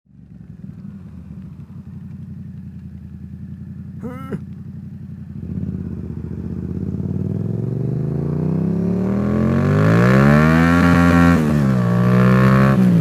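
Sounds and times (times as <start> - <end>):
motorcycle engine accelerating: 0.1 - 13.0.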